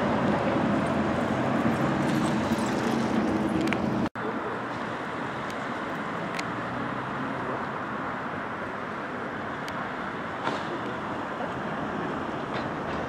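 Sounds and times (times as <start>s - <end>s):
distant cars passing: 0.0s - 13.0s.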